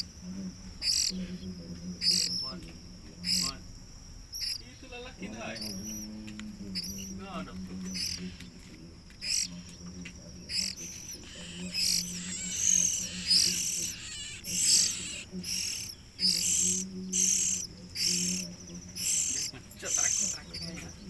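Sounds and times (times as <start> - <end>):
songbird chicks begging calls: 0.0 - 21.0.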